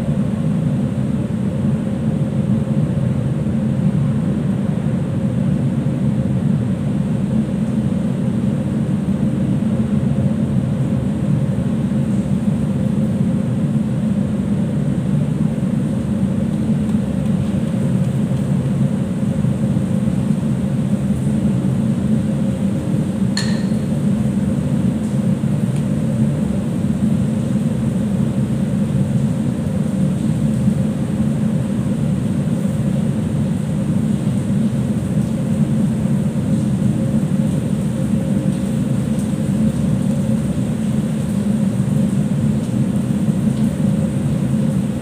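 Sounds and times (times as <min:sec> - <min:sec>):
ship machinery drone: 0:00.0 - 0:45.0.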